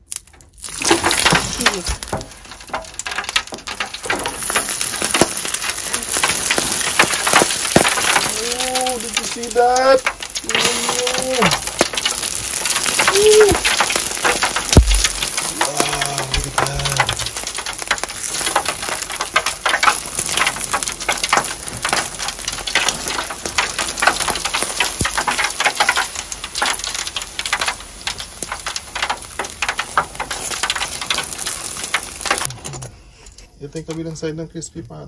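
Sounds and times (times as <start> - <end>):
hot oil sizzling and crackling: 0.0 - 35.0.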